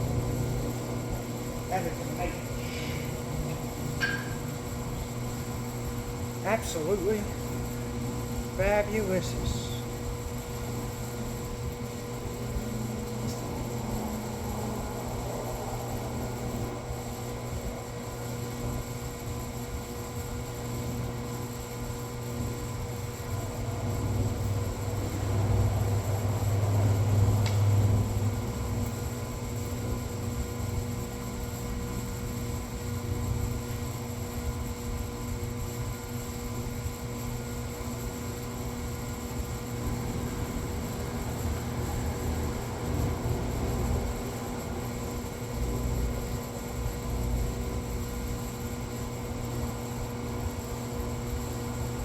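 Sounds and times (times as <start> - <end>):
machine hum: 0.0 - 52.0.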